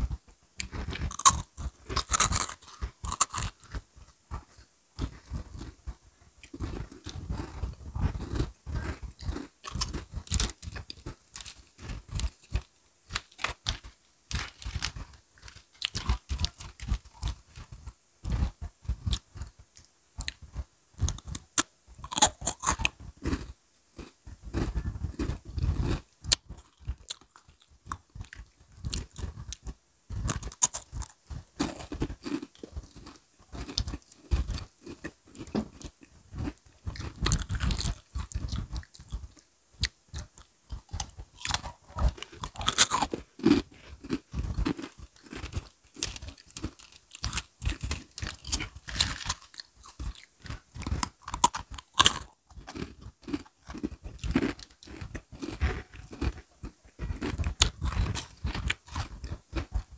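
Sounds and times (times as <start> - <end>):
people chewing crunchy snacks: 0.0 - 59.9.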